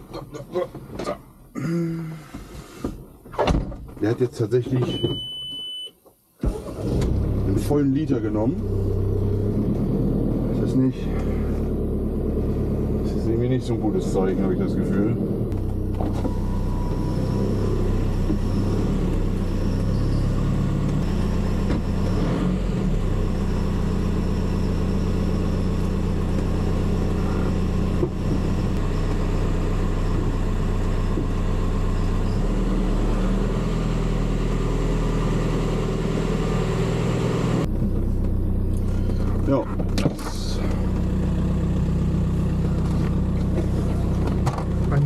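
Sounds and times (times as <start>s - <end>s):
car engine running: 6.5s - 45.0s.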